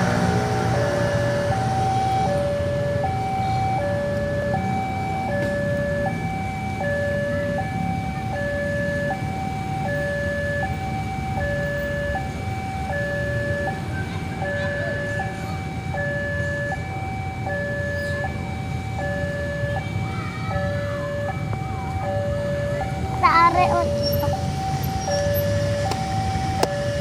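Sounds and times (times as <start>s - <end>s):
level-crossing two-tone alarm: 0.0s - 27.0s
low traffic rumble: 0.0s - 27.0s.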